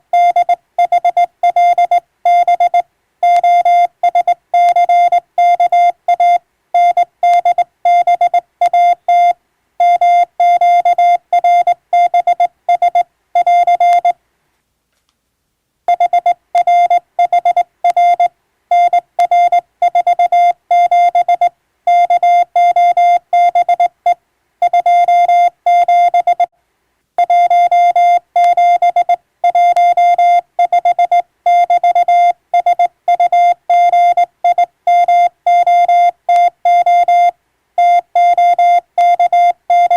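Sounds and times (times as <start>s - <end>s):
morse code tone: 0.1s - 14.2s, 15.9s - 26.5s, 27.2s - 39.9s.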